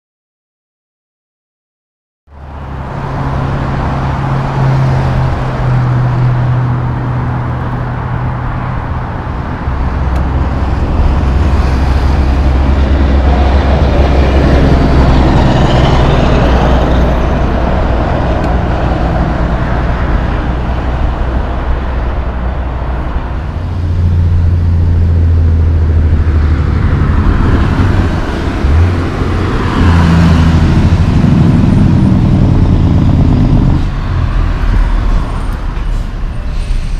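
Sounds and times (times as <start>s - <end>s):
heavy diesel truck engines: 2.3s - 36.9s
tyre and traffic noise: 2.3s - 36.9s.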